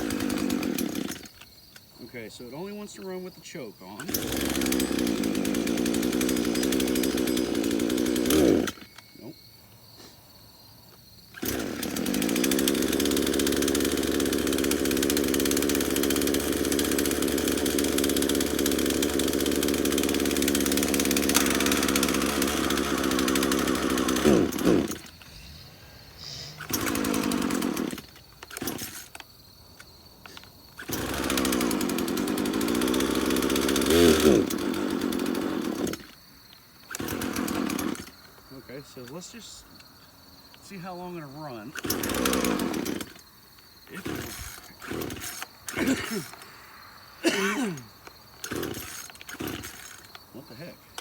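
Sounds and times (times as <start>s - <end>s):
chainsaw engine running and stalling: 0.0s - 1.4s, 3.9s - 9.0s, 11.3s - 25.6s, 26.2s - 36.2s, 36.8s - 39.6s, 40.5s - 46.5s, 47.2s - 51.0s.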